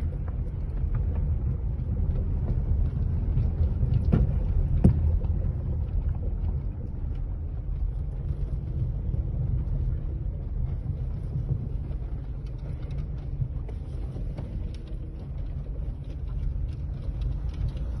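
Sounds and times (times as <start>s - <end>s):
car road rumble: 0.0s - 18.0s.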